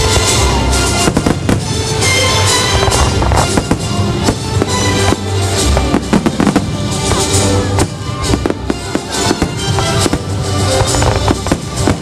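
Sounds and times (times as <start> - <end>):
fireworks bangs and crackles: 0.0 - 12.0
music with steady bass: 0.0 - 12.0.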